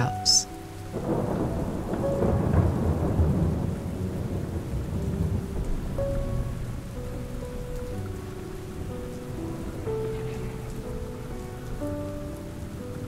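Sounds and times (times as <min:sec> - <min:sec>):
faint sustained music notes: 0:00.0 - 0:13.0
rain falling: 0:00.0 - 0:13.0
low rumble of thunder: 0:00.6 - 0:13.0.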